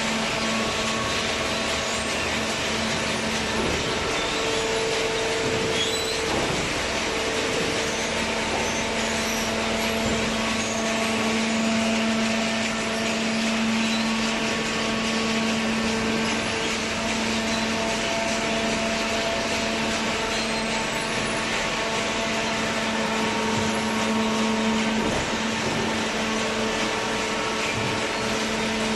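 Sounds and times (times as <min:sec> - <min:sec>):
baler machine humming: 0:00.0 - 0:28.9.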